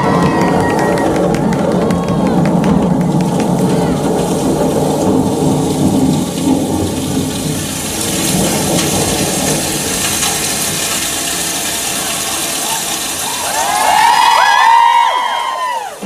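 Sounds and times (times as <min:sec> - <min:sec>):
low thunder rumble: 0:00.0 - 0:13.2
rain hiss: 0:00.0 - 0:16.0.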